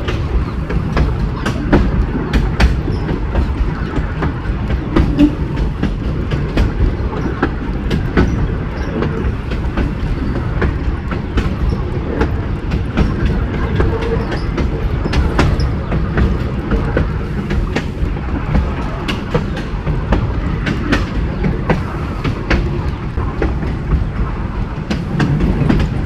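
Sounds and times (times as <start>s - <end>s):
train rumbling along track: 0.0s - 26.0s
wheels clicking over rails: 0.0s - 26.0s.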